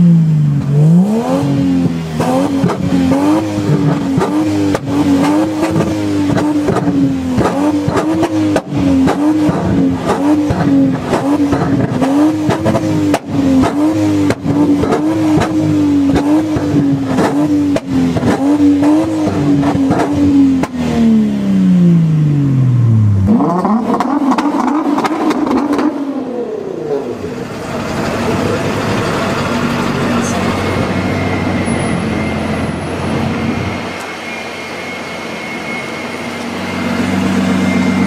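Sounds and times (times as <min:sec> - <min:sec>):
car engine at high revs: 0:00.0 - 0:38.0
second car engine revving: 0:00.0 - 0:38.0.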